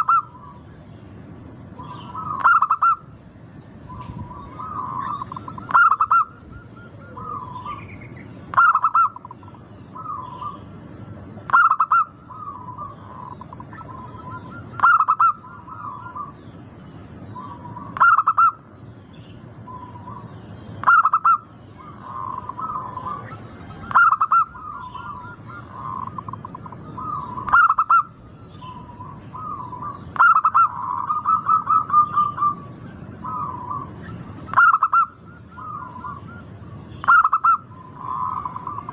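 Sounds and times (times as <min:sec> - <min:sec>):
dove cooing: 0:00.0 - 0:00.6, 0:01.8 - 0:03.2, 0:03.8 - 0:10.7, 0:11.3 - 0:16.4, 0:17.3 - 0:18.6, 0:19.6 - 0:38.9.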